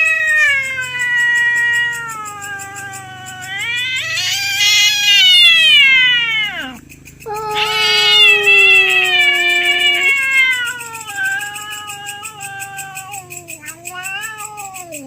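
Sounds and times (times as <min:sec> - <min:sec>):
cats yowling: 0:00.0 - 0:15.0.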